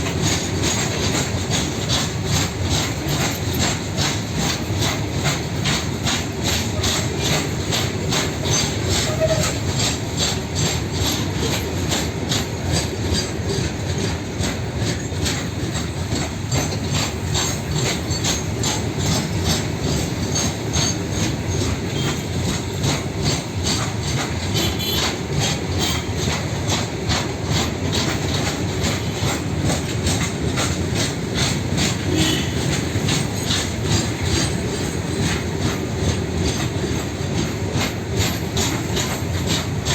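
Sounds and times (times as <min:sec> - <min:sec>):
freight train rumble: 0:00.0 - 0:39.9
train wheels clacking over rail joints: 0:00.0 - 0:39.9.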